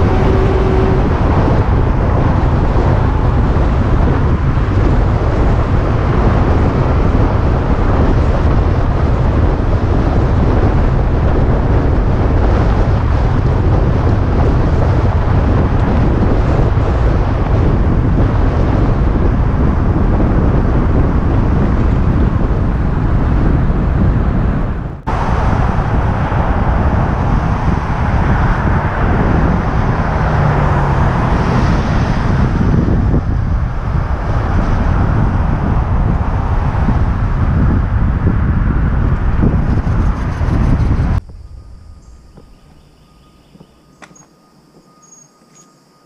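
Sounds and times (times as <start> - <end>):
wind rushing over microphone: 0.0 - 45.7
road traffic passing: 0.0 - 46.0.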